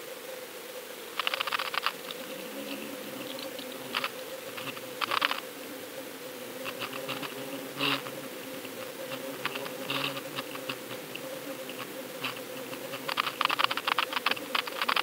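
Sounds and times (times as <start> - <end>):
rapid clicking: 1.2 - 5.4, 6.6 - 15.0.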